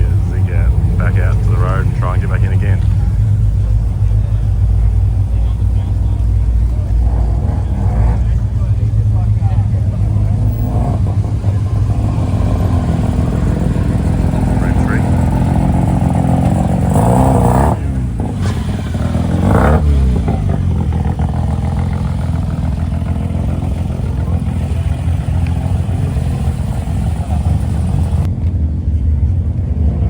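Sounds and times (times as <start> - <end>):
car engine revving: 0.0 - 28.3.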